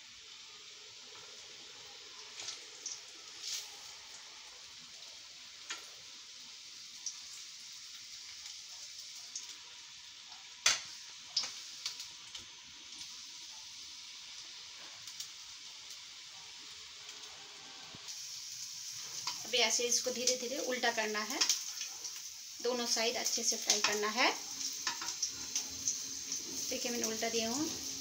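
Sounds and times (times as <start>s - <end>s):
ghee sizzling in a pan: 0.0s - 28.0s
sharp crackles of frying: 0.0s - 28.0s.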